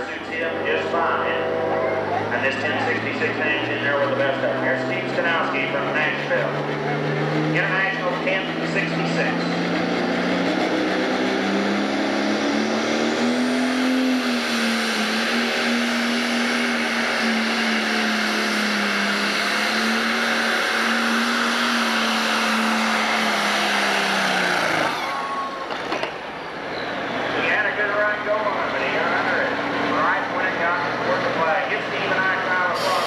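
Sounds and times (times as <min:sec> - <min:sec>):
tractor diesel engine at full power: 0:00.0 - 0:33.0.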